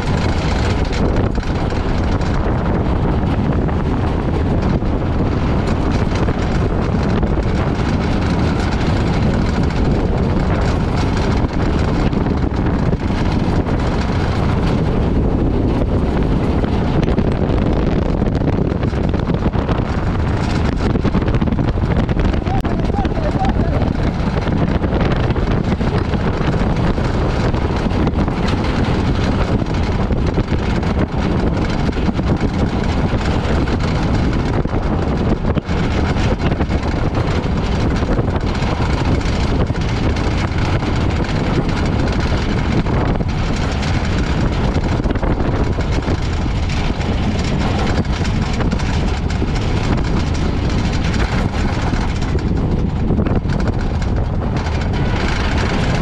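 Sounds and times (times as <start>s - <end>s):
vehicle rumble: 0.0s - 56.0s
wind noise: 0.0s - 56.0s.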